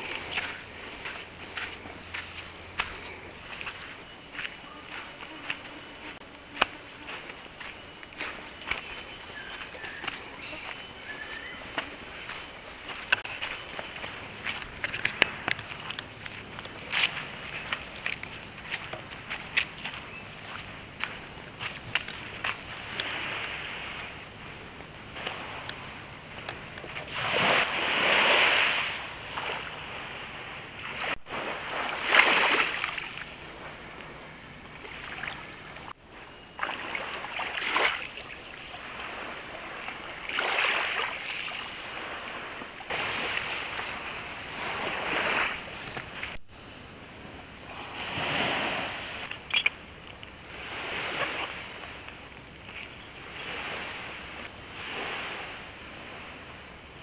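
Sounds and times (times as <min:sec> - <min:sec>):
small waves washing on shore: 0:00.0 - 0:46.4, 0:47.6 - 0:56.9.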